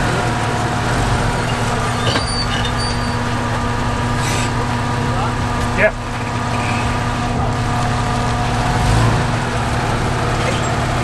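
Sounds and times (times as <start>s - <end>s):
off-road vehicle engine low revs: 0.0s - 11.0s.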